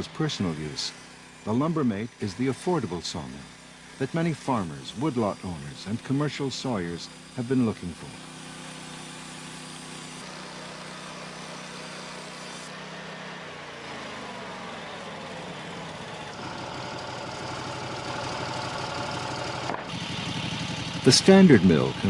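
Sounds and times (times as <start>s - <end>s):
sawmill engine running: 0.0s - 22.0s.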